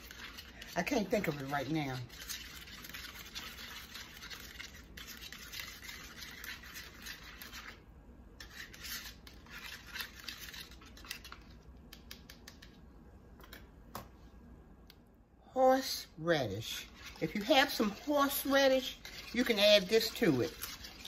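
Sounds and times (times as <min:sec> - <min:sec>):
whisk beating sauce in plastic bowl: 0:00.0 - 0:12.8, 0:16.4 - 0:21.0.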